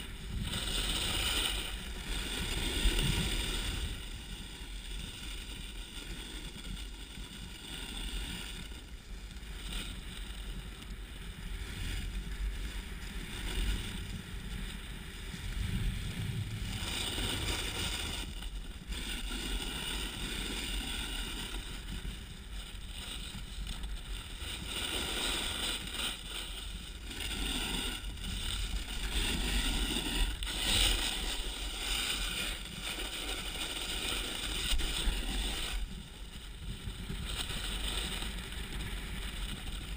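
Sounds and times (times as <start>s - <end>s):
snowboard scraping over snow: 0.0s - 39.9s.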